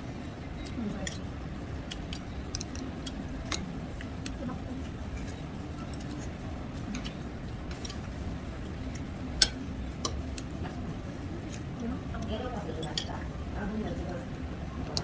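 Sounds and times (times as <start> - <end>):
faint murmur of voices: 0.0 - 15.0
low background hum: 0.0 - 15.0.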